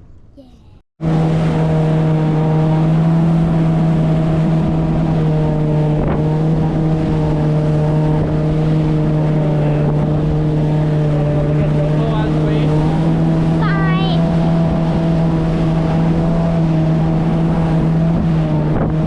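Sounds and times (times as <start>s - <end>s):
jet ski engine droning: 0.0s - 19.0s
rush of water and wind: 1.1s - 19.0s.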